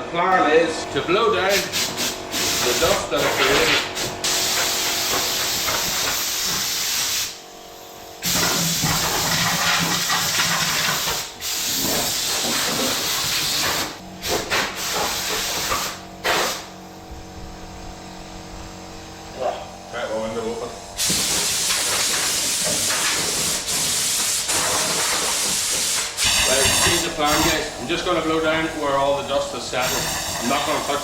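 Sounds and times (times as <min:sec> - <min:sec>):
compressed air blowgun hissing: 0:01.0 - 0:07.4, 0:08.2 - 0:16.8, 0:20.9 - 0:31.0.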